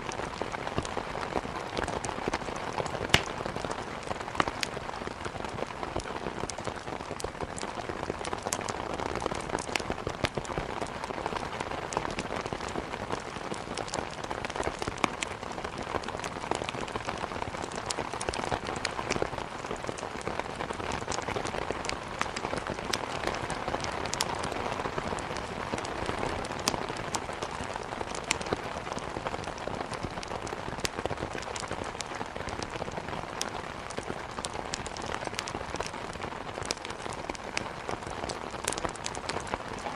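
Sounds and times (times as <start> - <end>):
steady rain: 0.0 - 39.9
burning wood crackling: 0.1 - 11.2, 11.9 - 24.5, 25.1 - 39.9.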